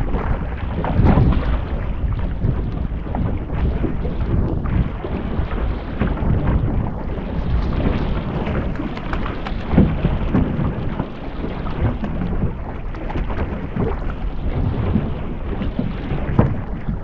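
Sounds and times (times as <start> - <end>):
waves slapping boat hull: 0.0 - 17.0
wind buffeting microphone: 0.0 - 17.0.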